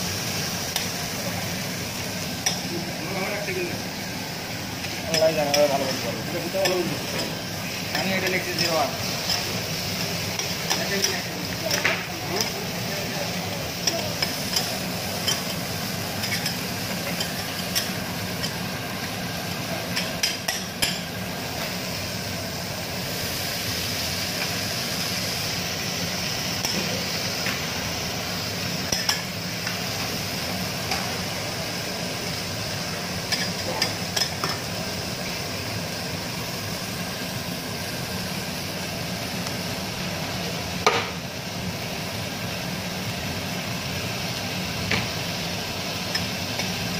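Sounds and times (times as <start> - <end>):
vegetables sizzling on a griddle: 0.0 - 46.9.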